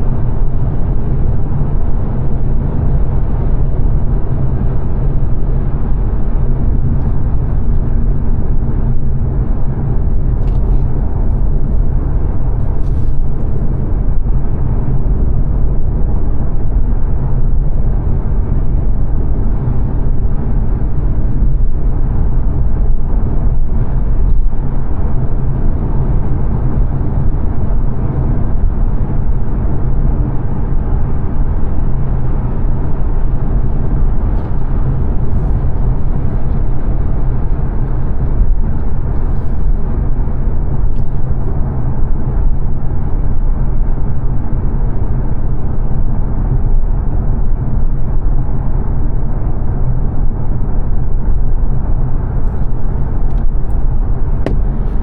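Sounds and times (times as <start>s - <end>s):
car engine hum: 0.0s - 55.0s
road and tyre rumble: 0.0s - 55.0s.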